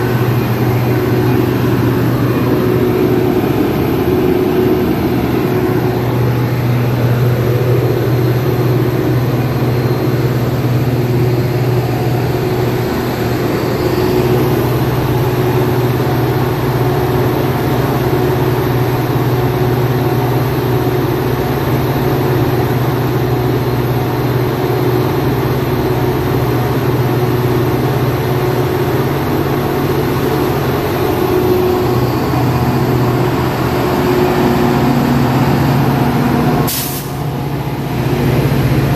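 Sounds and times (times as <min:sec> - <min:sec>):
diesel locomotive engine idling: 0:00.0 - 0:38.9.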